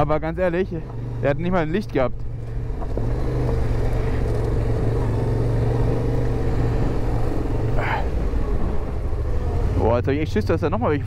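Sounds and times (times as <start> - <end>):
motorcycle engine running: 2.0 - 11.0.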